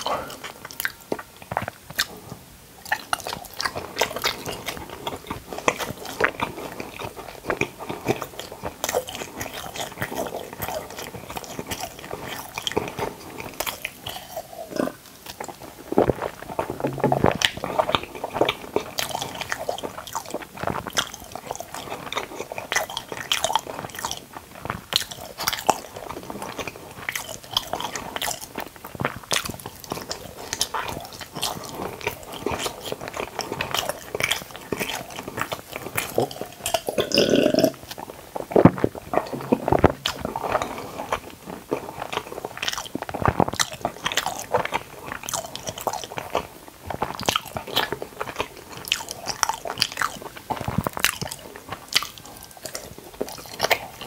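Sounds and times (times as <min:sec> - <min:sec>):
close chewing with mouth clicks: 0:00.0 - 0:54.0.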